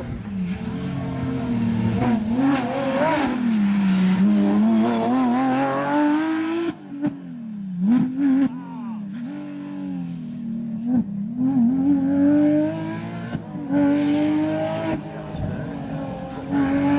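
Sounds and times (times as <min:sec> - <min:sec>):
race car engine revving: 0:00.0 - 0:16.9.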